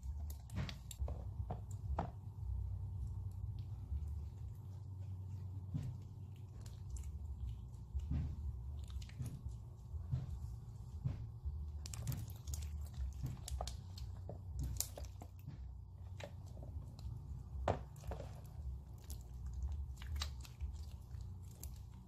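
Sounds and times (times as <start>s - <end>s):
slime squelching: 0.0s - 22.0s.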